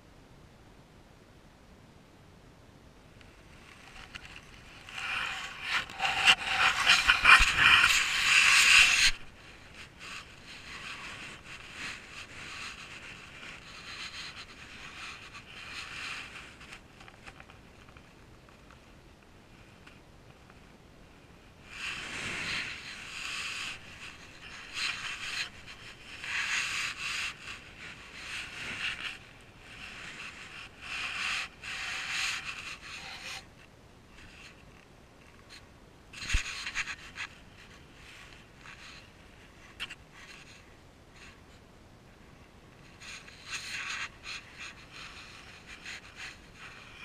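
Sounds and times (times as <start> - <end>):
rustling against microphone: 3.2 - 20.8, 21.6 - 41.6, 42.7 - 47.0.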